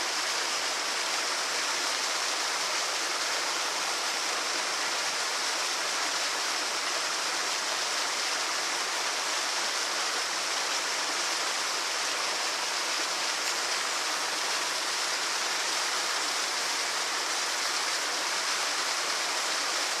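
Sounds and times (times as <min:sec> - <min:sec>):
waterfall splashing into lake: 0:00.0 - 0:20.0.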